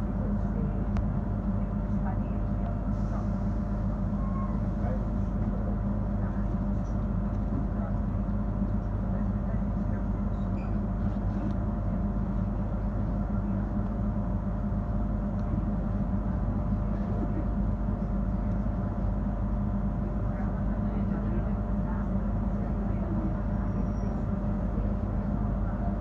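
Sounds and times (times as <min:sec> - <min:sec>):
train motor hum: 0:00.0 - 0:26.0
train rumbling on track: 0:00.0 - 0:26.0.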